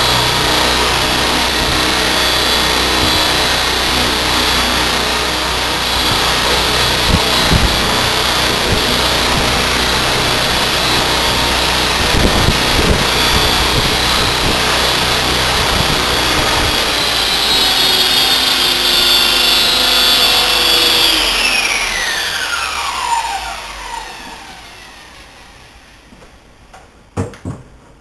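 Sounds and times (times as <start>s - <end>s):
rc helicopter rotors whining: 0.0s - 26.6s.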